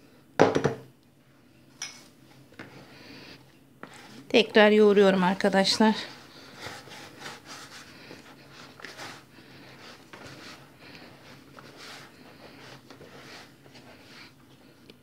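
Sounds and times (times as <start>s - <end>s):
hands kneading dough: 2.1s - 15.0s.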